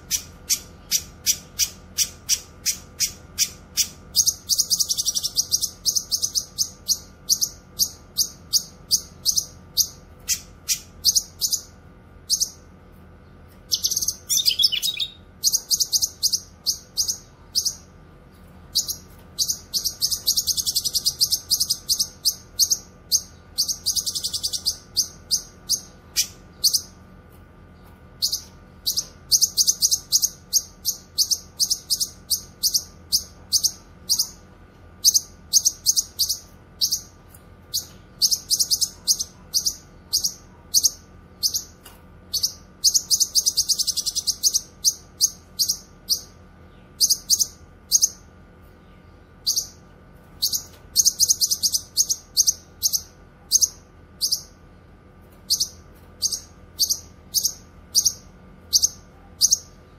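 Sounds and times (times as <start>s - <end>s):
bird chirping: 0.0s - 27.0s, 27.8s - 49.8s, 50.4s - 54.6s, 55.5s - 59.9s
faint steady hum: 0.0s - 59.9s.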